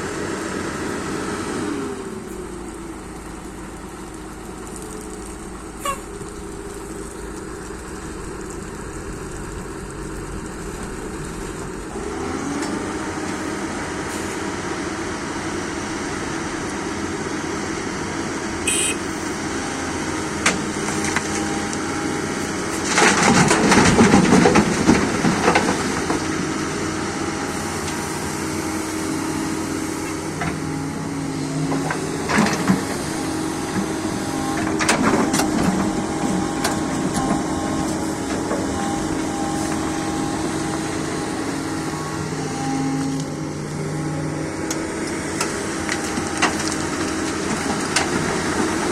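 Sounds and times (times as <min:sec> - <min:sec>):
excavator diesel engine revving: 0:00.0 - 0:48.9.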